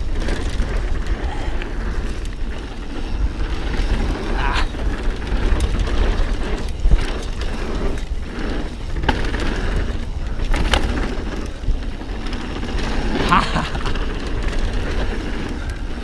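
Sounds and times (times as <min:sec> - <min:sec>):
bike rattling: 0:00.0 - 0:16.0
bike tyres on dirt trail: 0:00.0 - 0:16.0
wind rumbling on microphone: 0:00.0 - 0:16.0.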